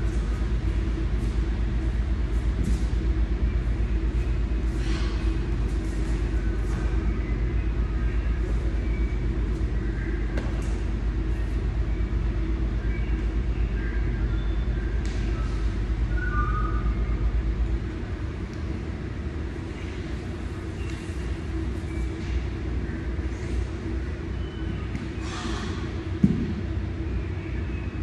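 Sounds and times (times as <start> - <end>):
low pulsing rumble: 0.0 - 28.0.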